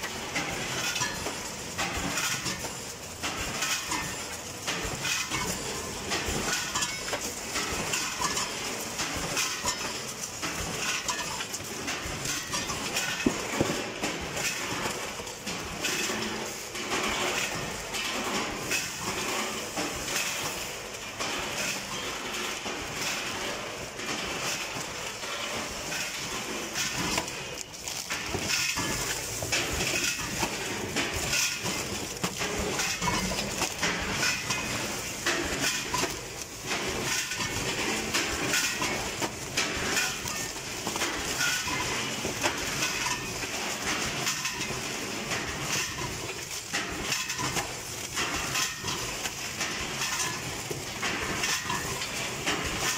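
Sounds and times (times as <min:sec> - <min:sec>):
packing machine clattering: 0:00.0 - 0:52.9.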